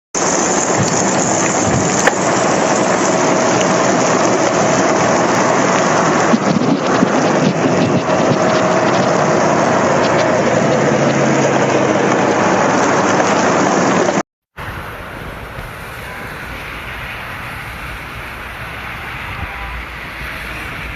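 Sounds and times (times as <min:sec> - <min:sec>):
heavy rain pouring: 0:00.2 - 0:20.9.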